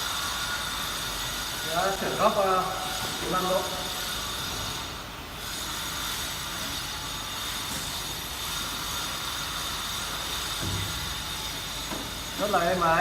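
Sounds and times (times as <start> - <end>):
cutting saw humming and whining: 0.0 - 13.0.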